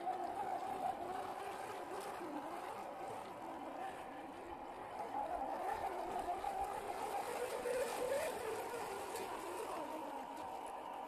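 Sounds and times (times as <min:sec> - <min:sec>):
water churning and splashing: 0:00.0 - 0:11.0.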